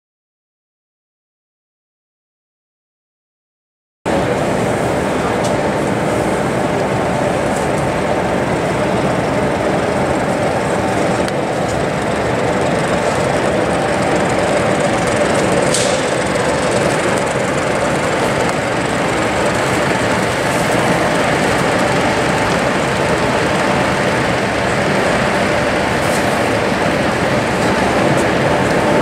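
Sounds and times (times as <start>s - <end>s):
model locomotive diesel engine sound: 4.1s - 29.0s.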